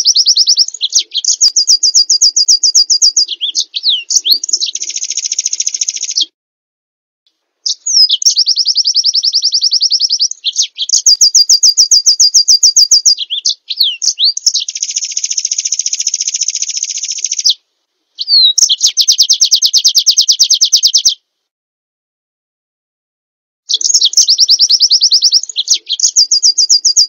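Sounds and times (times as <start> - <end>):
songbird trilling: 0.0 - 6.3, 7.6 - 17.6, 18.2 - 21.2, 23.7 - 27.0.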